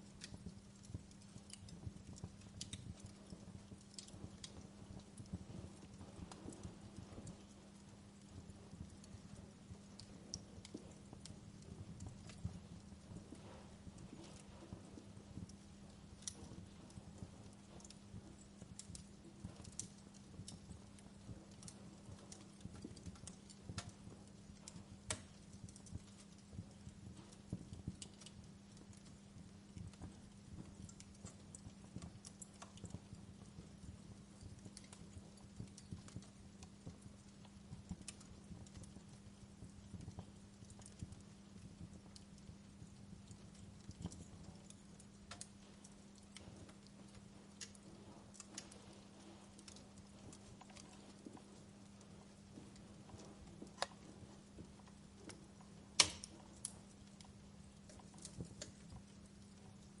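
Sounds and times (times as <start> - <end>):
faint steady hum: 0.0 - 60.0
fire popping and snapping: 0.0 - 60.0
wood fire crackling: 0.0 - 60.0.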